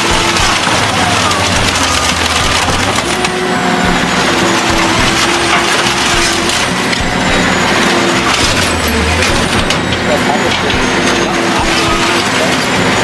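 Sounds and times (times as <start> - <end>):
shredder crunching and cracking: 0.0 - 13.0
steady machine drone: 0.0 - 13.0.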